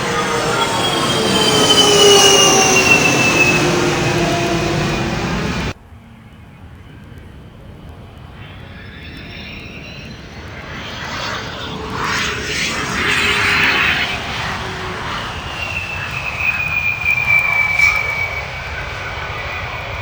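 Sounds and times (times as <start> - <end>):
aircraft engine: 0.0 - 20.0
aircraft engines passing: 0.0 - 20.0.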